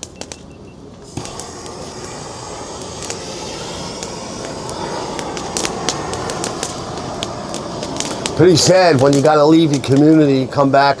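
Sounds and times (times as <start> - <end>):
burning wood crackling and popping: 0.0 - 11.0
steady rushing noise: 1.1 - 11.0.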